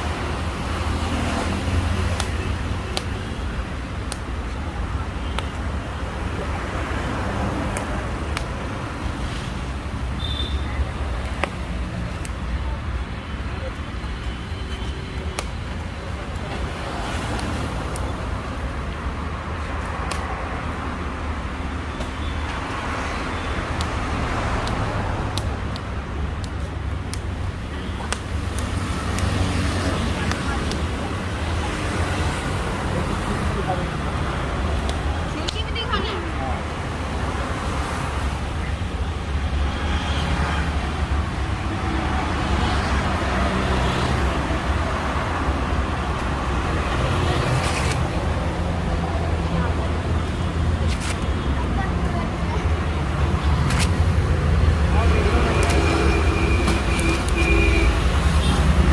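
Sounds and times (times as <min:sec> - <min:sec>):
street traffic rumble: 0:00.0 - 0:58.9.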